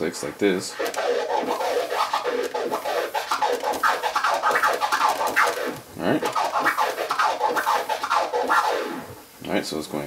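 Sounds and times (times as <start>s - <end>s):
vinyl record scratching: 0.0s - 9.3s.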